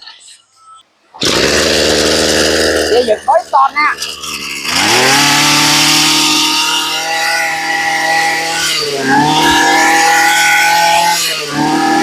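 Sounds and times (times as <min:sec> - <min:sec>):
brush cutter engine revving: 0:01.1 - 0:12.0.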